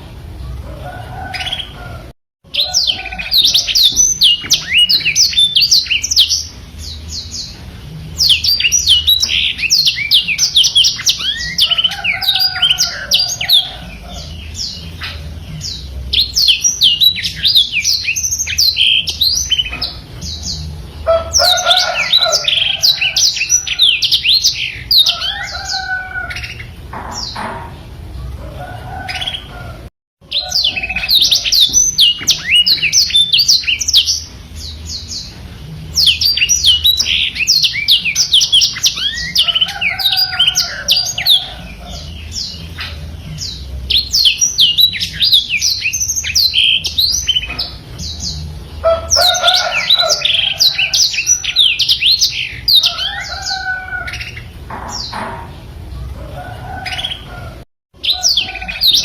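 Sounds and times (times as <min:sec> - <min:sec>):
canary twittering song: 0:00.4 - 0:59.0.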